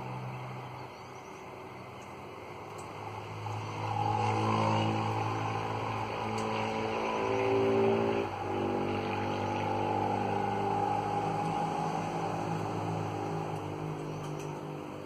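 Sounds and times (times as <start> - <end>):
vehicle engine passing: 0.0 - 15.0.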